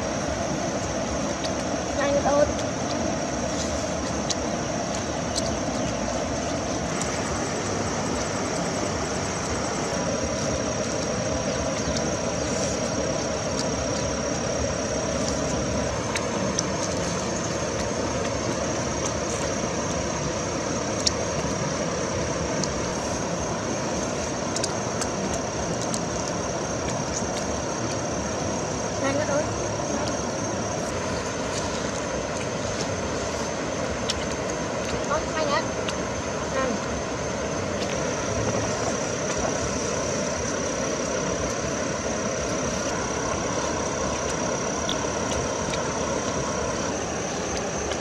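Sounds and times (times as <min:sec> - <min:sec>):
river flowing: 0:00.0 - 0:48.0.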